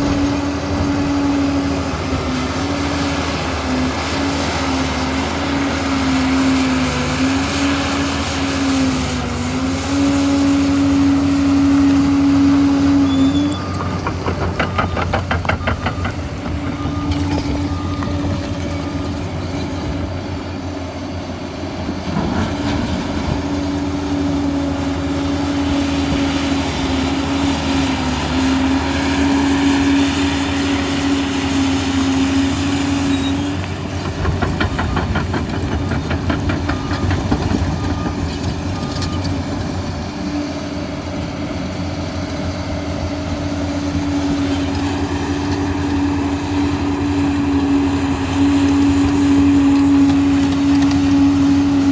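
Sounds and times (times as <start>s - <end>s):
diesel engine whining: 0.0s - 51.9s.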